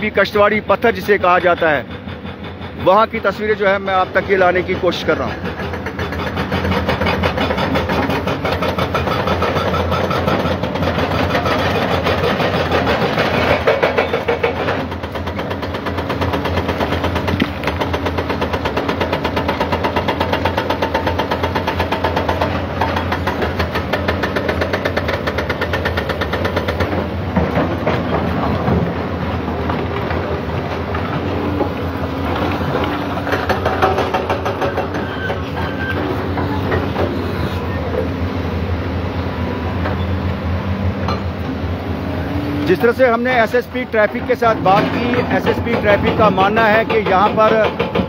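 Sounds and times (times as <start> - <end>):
diesel excavators running: 0.0 - 48.0
hydraulic rock breaker hammering: 0.3 - 38.2, 42.2 - 48.0.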